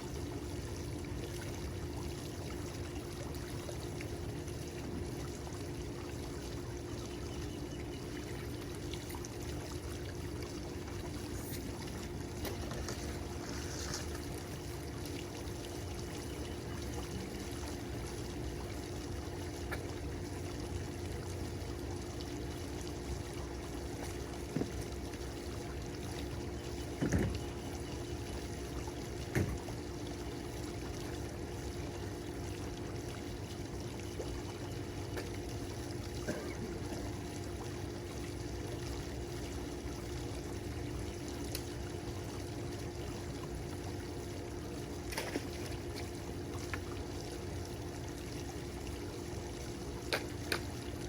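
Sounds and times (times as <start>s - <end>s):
low steady hum: 0.0s - 51.0s
water pouring and trickling: 0.0s - 51.0s.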